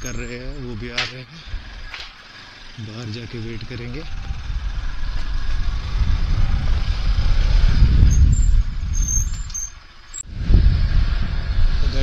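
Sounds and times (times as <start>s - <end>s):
motorcycle engine low rumble: 0.0s - 12.0s.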